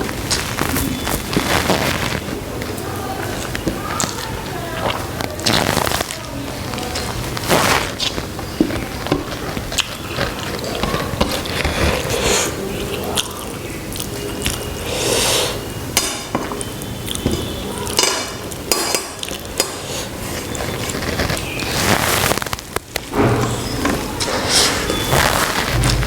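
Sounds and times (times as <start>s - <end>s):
chewing: 0.0s - 26.0s.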